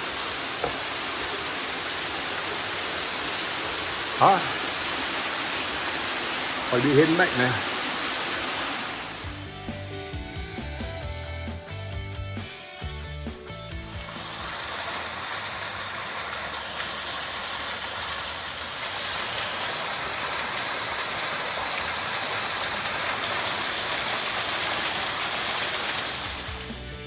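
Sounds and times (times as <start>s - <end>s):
waterfall rushing: 0.0s - 9.5s, 14.0s - 26.7s.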